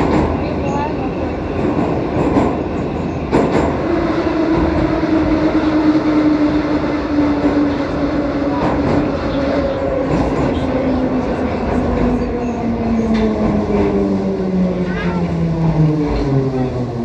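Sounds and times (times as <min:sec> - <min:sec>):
train rumble and rail noise: 0:00.0 - 0:17.0.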